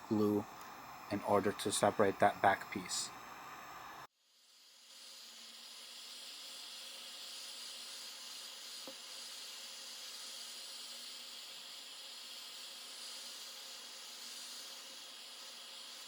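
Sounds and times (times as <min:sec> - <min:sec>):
heat gun blowing: 0:00.0 - 0:16.0.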